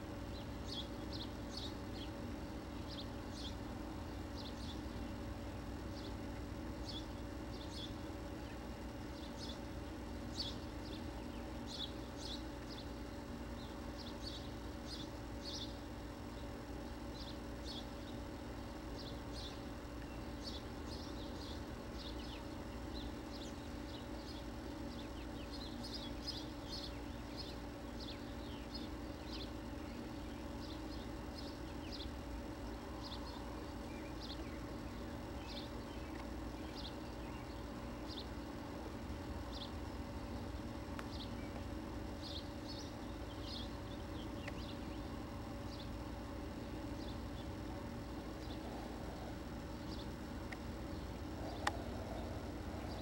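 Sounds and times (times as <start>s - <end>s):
small birds chirping: 0.0s - 53.0s
steady low hum: 0.0s - 53.0s.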